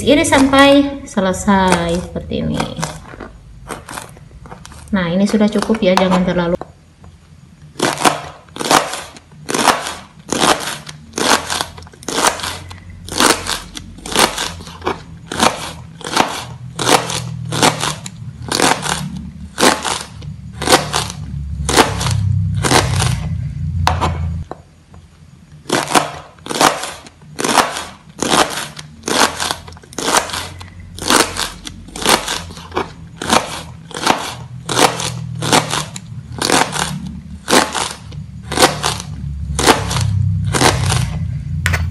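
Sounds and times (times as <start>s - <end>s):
knife chopping pods on board: 1.5s - 6.7s, 7.7s - 23.2s, 25.7s - 41.1s.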